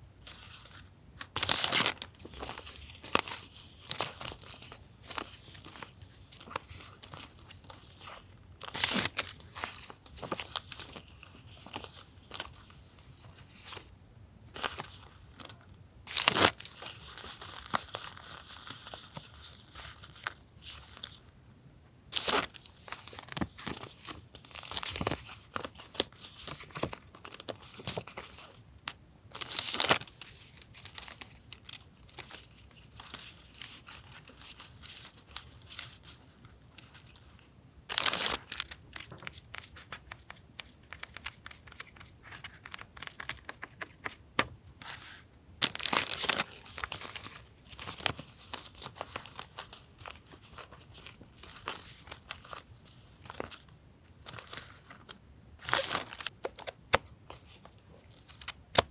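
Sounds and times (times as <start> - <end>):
paper packaging rustling and crinkling: 0.3 - 13.9, 14.6 - 21.3, 22.2 - 28.6, 29.3 - 58.9.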